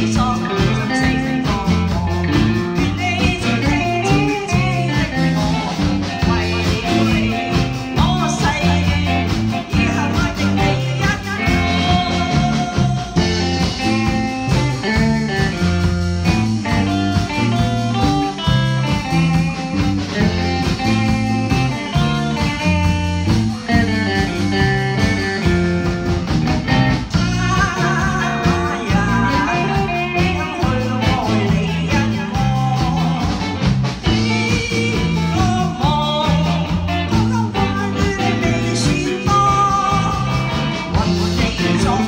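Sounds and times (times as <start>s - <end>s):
drum beat: 0.0s - 42.0s
electric guitar: 0.0s - 42.0s
walking bass line: 0.0s - 42.0s.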